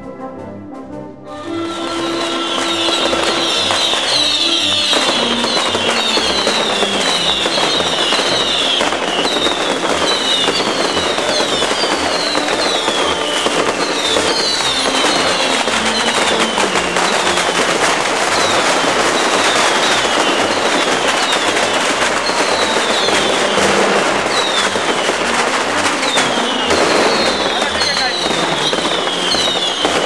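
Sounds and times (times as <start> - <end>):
whistling fireworks: 1.5 - 30.0
fireworks crackling and banging: 1.6 - 30.0.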